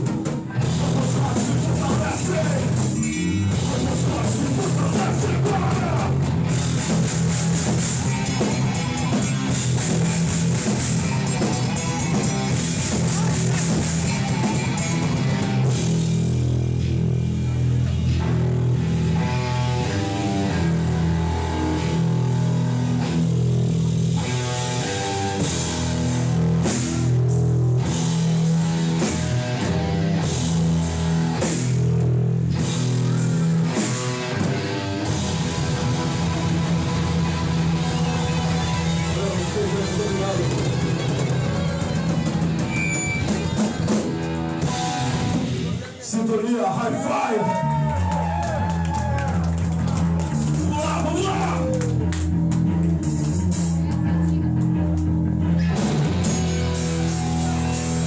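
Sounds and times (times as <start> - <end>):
live band playing loud: 0.0 - 58.0.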